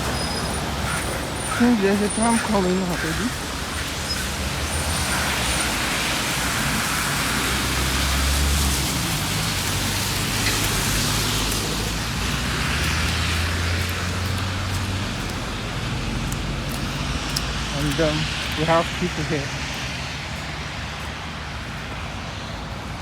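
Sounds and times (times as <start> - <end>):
tyres hissing through wet snow: 0.0 - 22.9
vehicles rumbling past: 0.0 - 23.0.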